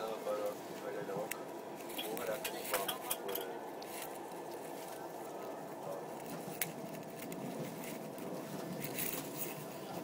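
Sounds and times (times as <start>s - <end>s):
background hubbub: 0.0s - 10.0s.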